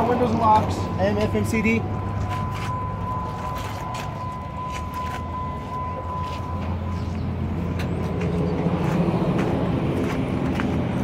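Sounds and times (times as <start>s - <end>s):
diesel engine idling: 0.0s - 11.0s
footsteps on concrete: 0.3s - 11.0s.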